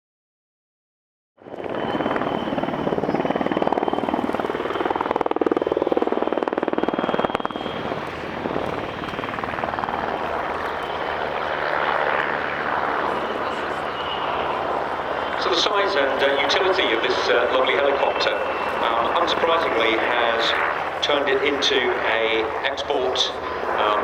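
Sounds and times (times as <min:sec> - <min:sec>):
helicopter rotor blades chopping: 0:01.4 - 0:24.0
high turbine whine: 0:01.4 - 0:24.0.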